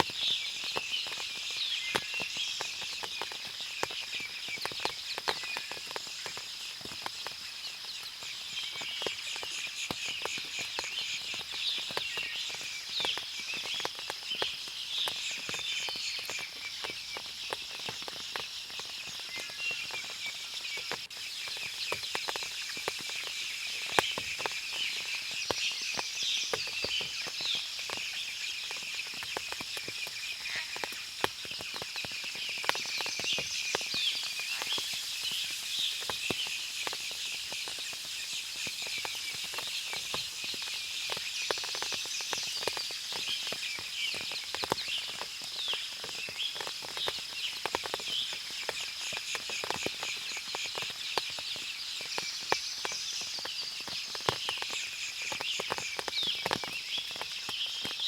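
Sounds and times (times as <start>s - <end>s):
small birds chirping: 0.0s - 58.0s
water dripping from leaves: 0.0s - 58.0s.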